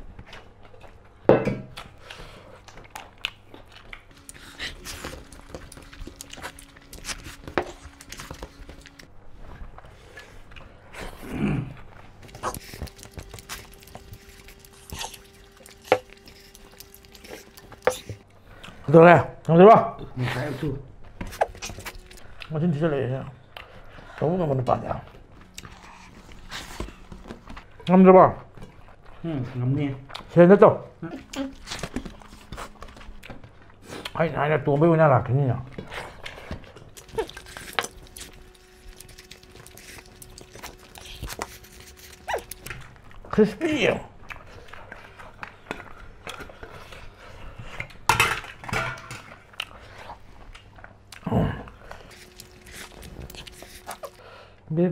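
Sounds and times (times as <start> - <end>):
food being chewed: 0.0 - 19.6, 20.9 - 54.6.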